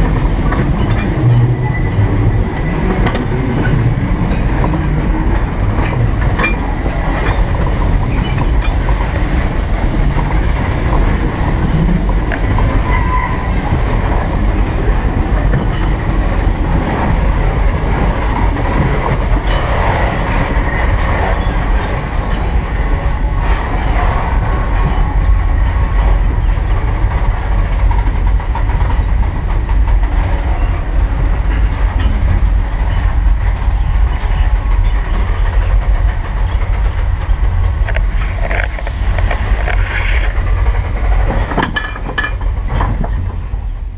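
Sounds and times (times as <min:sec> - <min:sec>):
train rumbling on track: 0:00.0 - 0:43.9.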